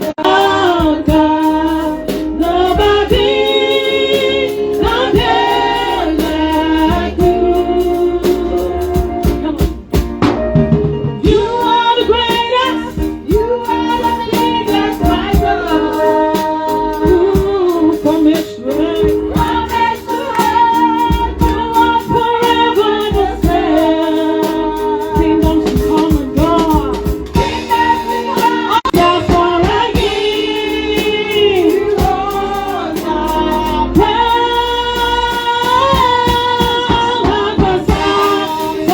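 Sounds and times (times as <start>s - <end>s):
woman singing gospel: 0.0s - 10.2s, 11.2s - 38.9s
instrumental backing with steady beat: 0.0s - 38.9s.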